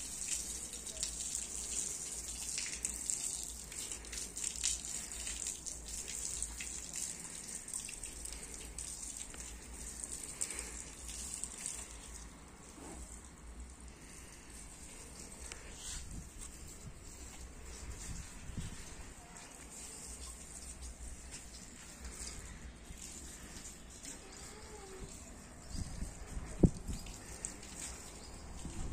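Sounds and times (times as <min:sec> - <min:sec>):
water splashing onto concrete: 0:00.0 - 0:28.9.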